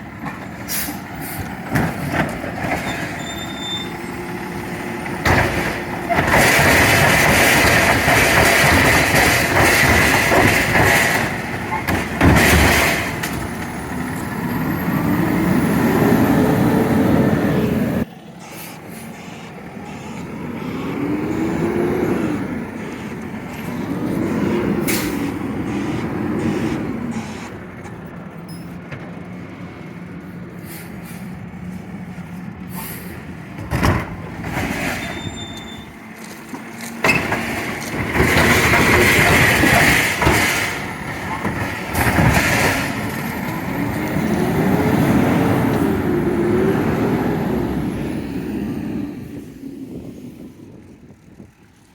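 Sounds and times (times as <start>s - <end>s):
garbage truck engine revving: 0.0s - 28.5s, 32.5s - 51.5s.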